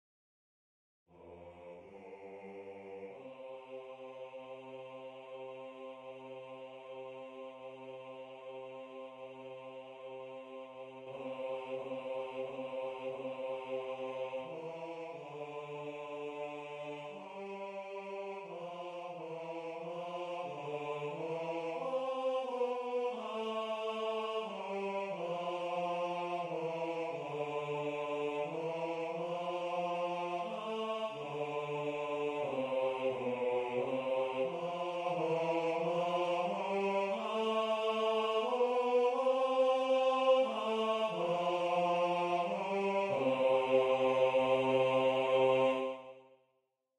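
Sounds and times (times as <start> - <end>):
synthesized choir bass line: 1.1 - 46.2.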